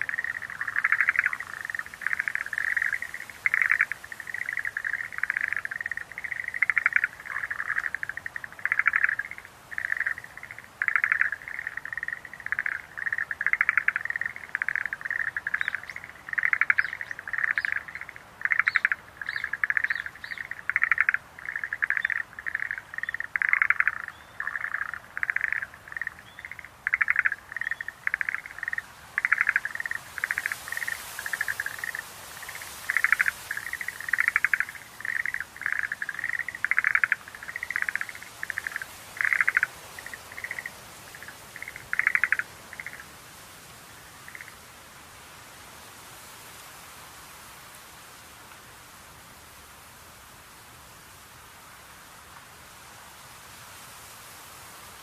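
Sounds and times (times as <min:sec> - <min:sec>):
tree frogs calling: 0:00.0 - 0:44.7.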